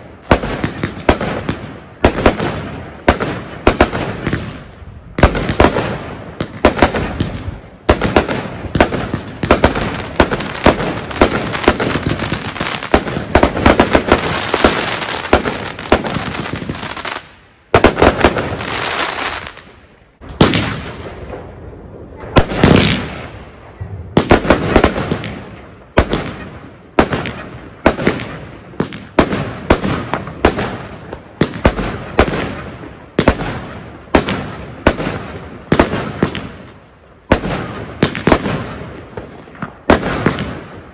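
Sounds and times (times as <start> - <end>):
firework single shots: 0.0 - 40.9
rapid firework bangs and crackle: 0.0 - 40.9.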